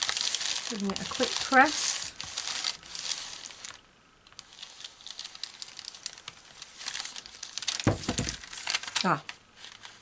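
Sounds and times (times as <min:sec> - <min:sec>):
paper rustling under an iron: 0:00.0 - 0:03.8, 0:04.4 - 0:10.0
paper crinkling: 0:00.0 - 0:10.0.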